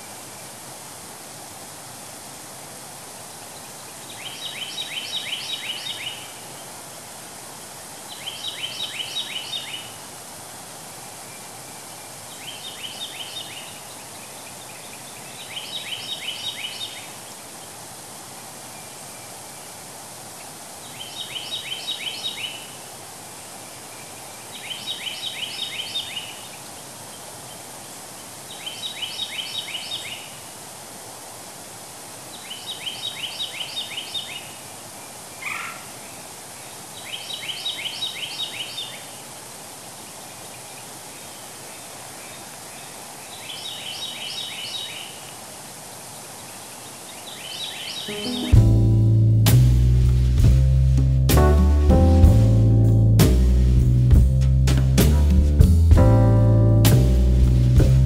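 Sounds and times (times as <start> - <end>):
stream rushing over cascades: 0.0 - 49.5.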